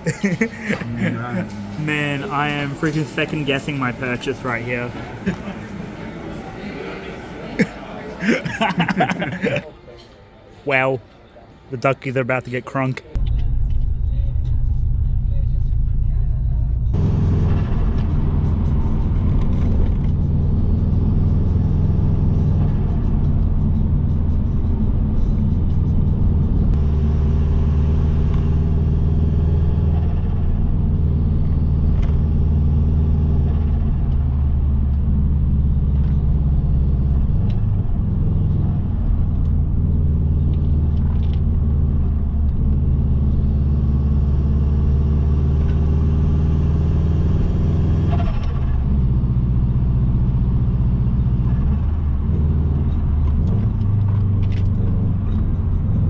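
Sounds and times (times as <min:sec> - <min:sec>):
car engine running: 0:00.0 - 0:06.2, 0:13.2 - 0:56.0
road noise: 0:00.0 - 0:56.0.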